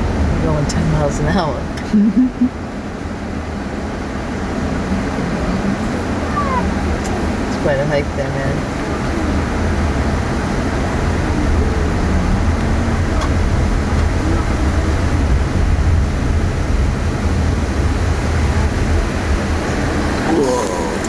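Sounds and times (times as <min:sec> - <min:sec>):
car engine rumble: 0:00.0 - 0:21.0
tyres on road: 0:00.0 - 0:21.0.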